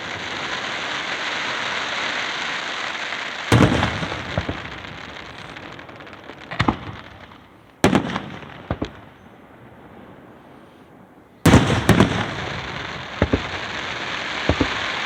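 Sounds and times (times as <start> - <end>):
fireworks crackling hiss: 0.0 - 9.1, 10.2 - 15.0
fireworks booms with echo: 0.0 - 9.3, 11.4 - 15.0.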